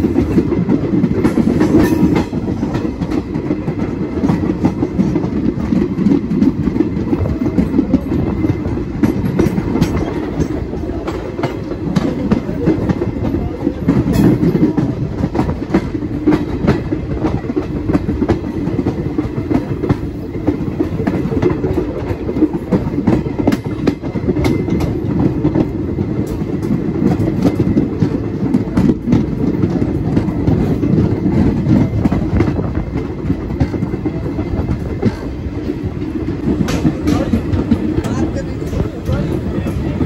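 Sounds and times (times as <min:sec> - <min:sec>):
train rumbling: 0:00.0 - 0:40.0
wheels clicking over rail joints: 0:00.0 - 0:40.0.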